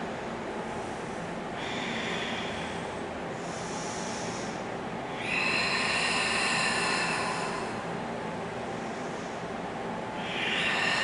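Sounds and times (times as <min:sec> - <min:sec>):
slow deep breathing: 0:00.6 - 0:11.0.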